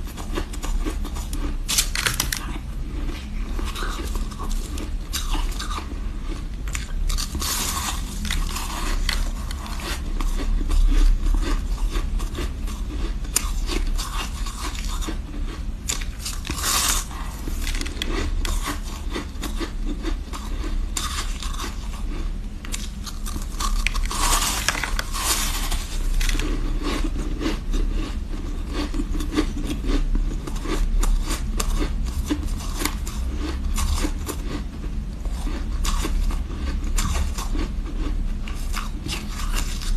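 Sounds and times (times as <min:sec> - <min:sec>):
ice being chewed and crunched: 0:00.0 - 0:39.9.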